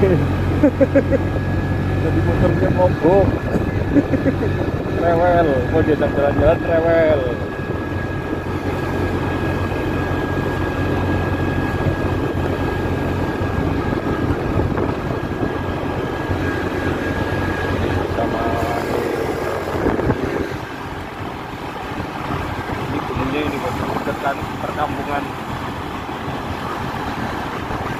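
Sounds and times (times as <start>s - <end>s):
motor scooter engine running: 0.0s - 27.9s
wind rushing over microphone: 0.0s - 27.9s.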